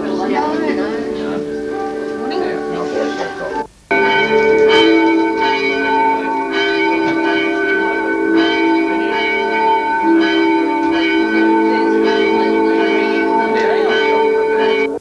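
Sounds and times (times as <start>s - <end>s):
bell-like ringing chords: 0.0s - 15.0s.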